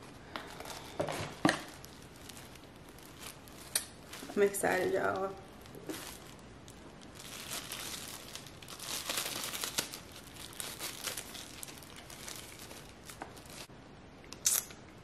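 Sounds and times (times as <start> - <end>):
packaging crinkling and rustling: 0.0 - 13.7.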